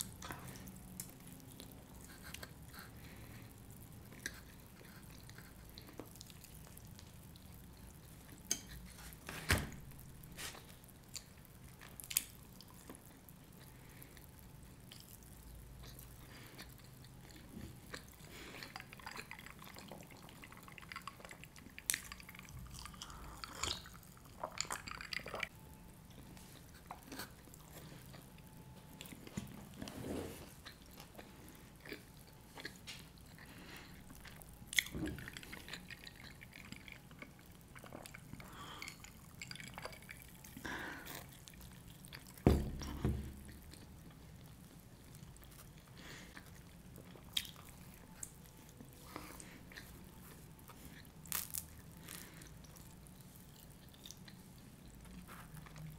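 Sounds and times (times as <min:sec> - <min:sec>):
chewing with wet mouth clicks: 0:00.0 - 0:09.2, 0:10.6 - 0:29.8, 0:30.5 - 0:42.4, 0:43.3 - 0:55.9.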